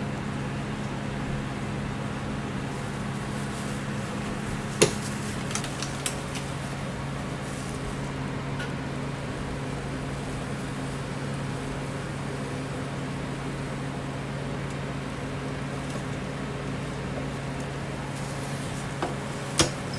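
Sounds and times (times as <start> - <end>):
kitchen equipment humming: 0.0 - 19.9.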